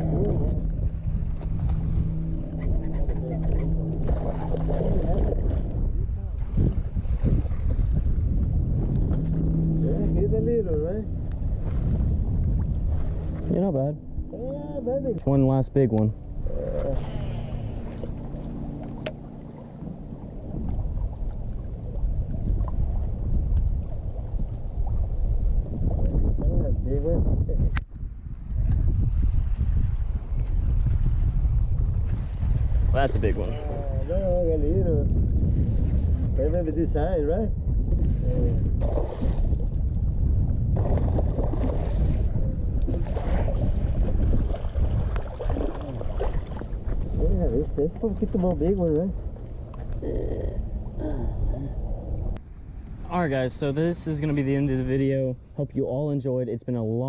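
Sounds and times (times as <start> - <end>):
wind buffeting microphone: 0.0 - 56.2.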